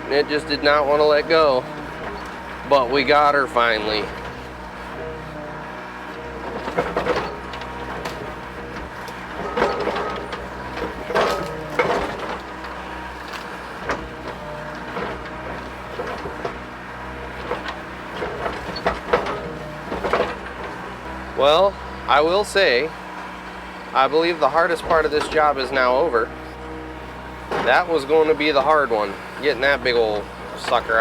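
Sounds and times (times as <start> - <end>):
excavator diesel engine running: 0.0 - 31.0
hydraulic hum: 0.0 - 31.0
machine squeaks and creaks: 0.3 - 21.7, 23.5 - 31.0.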